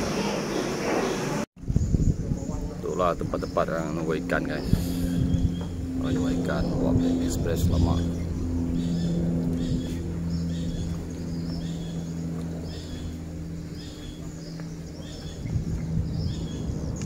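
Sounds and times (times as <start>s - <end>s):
low engine hum: 0.0s - 17.0s
bird chirping: 0.3s - 17.0s.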